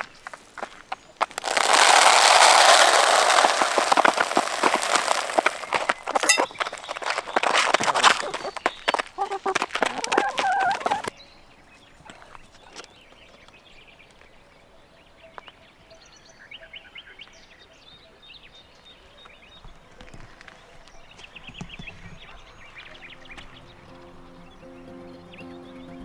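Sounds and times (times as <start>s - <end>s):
small birds chirping: 0.0s - 19.8s, 20.8s - 26.0s.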